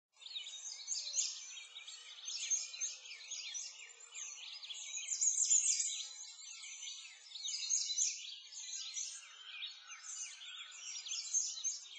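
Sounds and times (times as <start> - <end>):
small birds chirping: 0.2 - 11.9.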